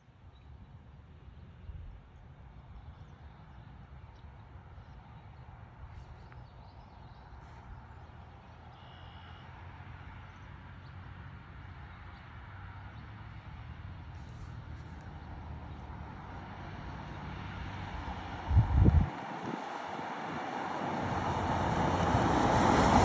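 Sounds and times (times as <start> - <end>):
distant car engine rumble: 1.2 - 23.0.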